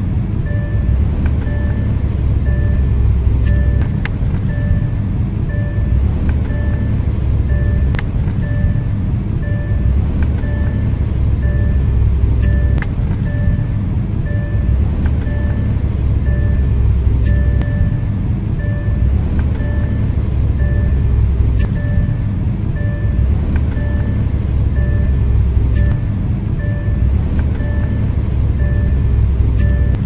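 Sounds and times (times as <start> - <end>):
car engine rumble inside cabin: 0.0 - 30.0
short repeating beeps: 0.4 - 30.0.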